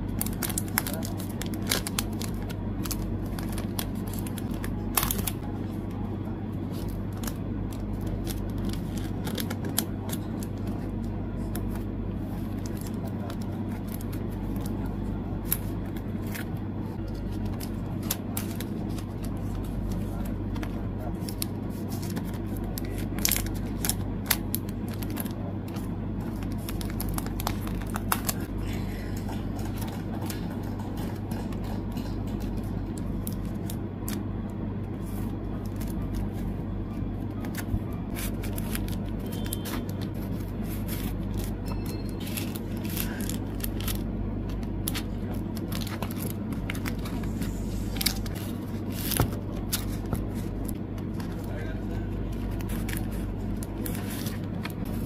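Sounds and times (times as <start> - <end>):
low hum: 0.0 - 55.0
plastic sleeves crinkling: 0.1 - 5.5, 6.6 - 34.3, 37.2 - 55.0.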